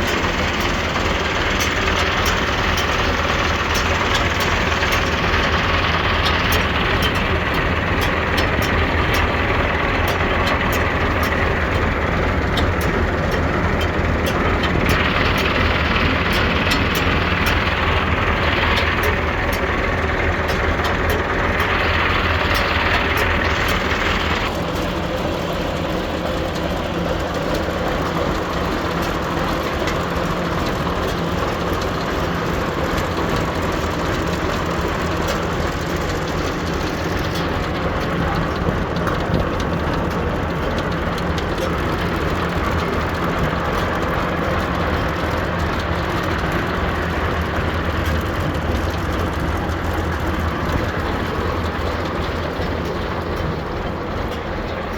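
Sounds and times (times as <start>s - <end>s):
baler running mechanically: 0.0s - 54.9s
tractor engine drone: 0.0s - 54.9s.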